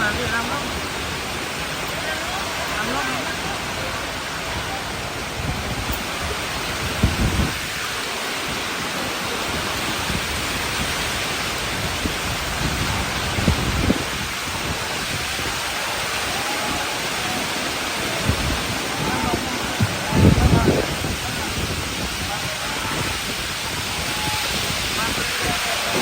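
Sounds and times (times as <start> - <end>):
heavy rain pouring: 0.0 - 26.0
low wind bumps: 0.0 - 26.0.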